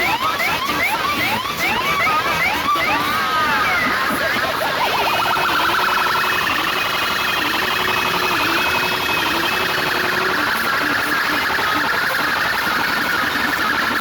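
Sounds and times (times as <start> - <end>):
siren-like alarm from speakers: 0.0 - 14.0.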